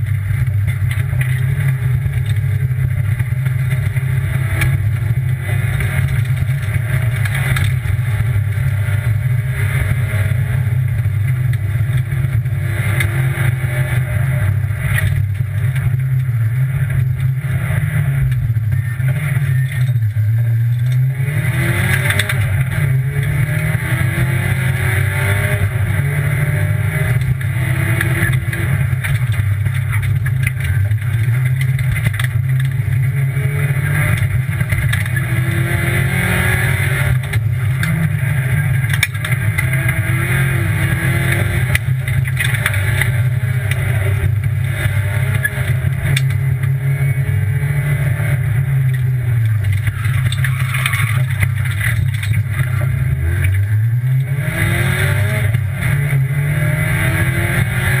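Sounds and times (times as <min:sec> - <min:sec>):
car engine running hard: 0:00.0 - 0:58.0
road and tyre noise: 0:00.0 - 0:58.0.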